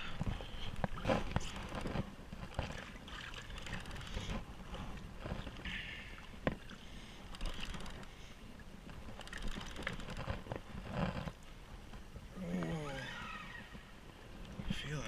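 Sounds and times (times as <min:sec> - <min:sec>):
water sloshing against kayak hull: 0:00.0 - 0:12.2.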